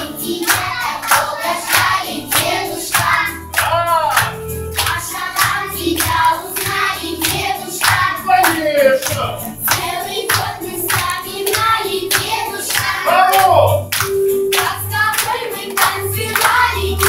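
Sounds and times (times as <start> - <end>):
backing music with sharp beat: 0.0 - 17.0
group singing festive song: 0.0 - 17.0.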